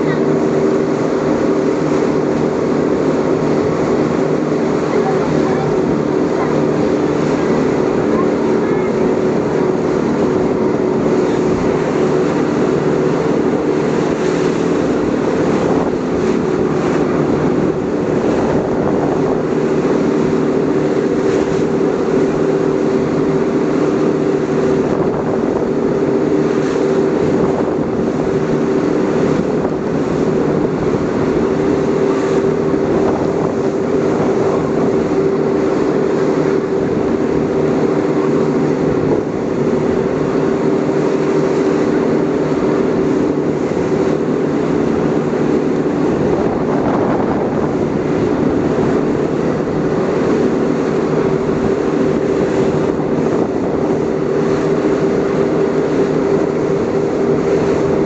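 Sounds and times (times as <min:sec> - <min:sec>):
speedboat engine drone: 0:00.0 - 0:58.0
water rushing along hull: 0:00.0 - 0:58.0.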